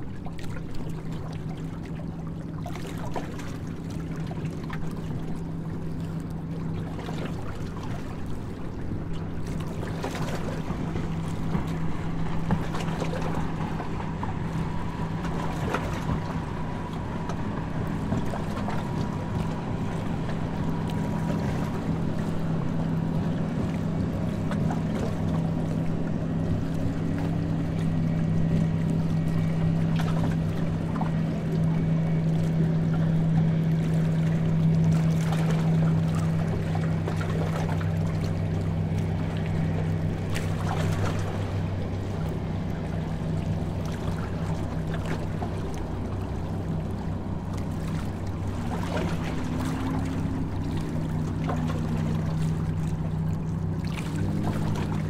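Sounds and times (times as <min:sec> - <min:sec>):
boat engine droning: 0:00.0 - 0:55.0
water: 0:00.0 - 0:55.0.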